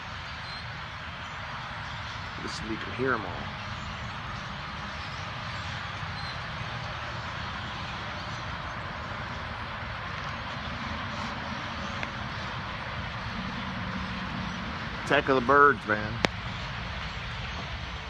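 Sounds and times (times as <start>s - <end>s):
flock of blackbirds chattering: 0.0s - 18.0s.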